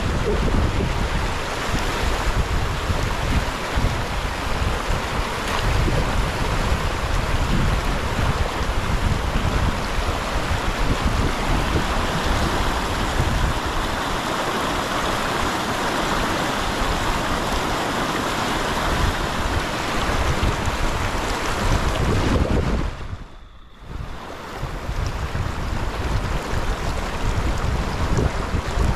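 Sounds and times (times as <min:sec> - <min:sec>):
river rushing over stones: 0:00.0 - 0:28.9
wind buffeting microphone: 0:00.0 - 0:28.9.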